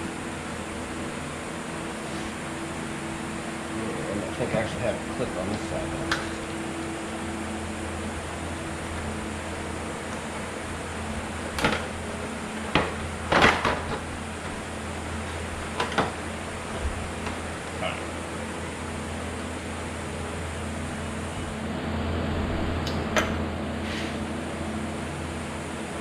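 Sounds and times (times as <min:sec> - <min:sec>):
low hum: 0:00.0 - 0:25.7.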